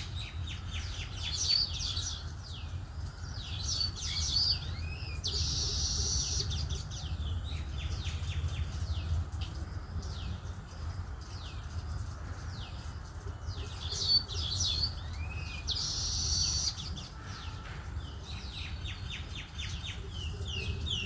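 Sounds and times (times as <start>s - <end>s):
birds chattering: 0.0s - 21.0s.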